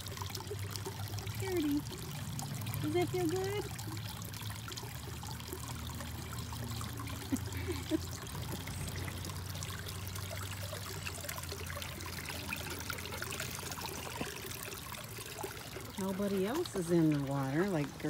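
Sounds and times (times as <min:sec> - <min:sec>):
fountain water trickling: 0:00.0 - 0:18.0.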